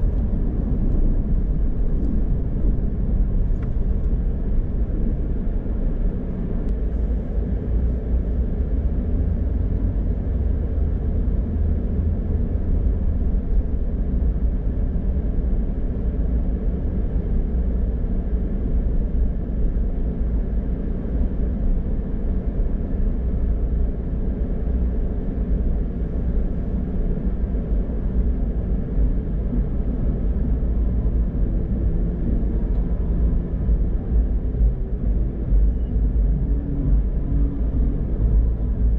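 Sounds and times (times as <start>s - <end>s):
car driving on highway: 0.0s - 38.9s.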